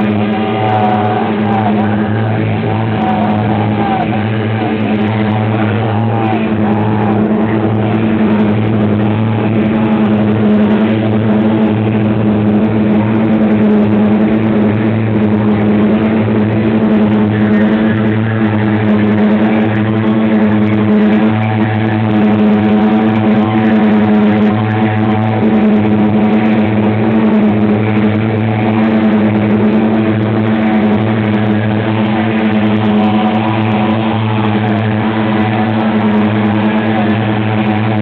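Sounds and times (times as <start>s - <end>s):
low electronic drone: 0.0s - 38.0s.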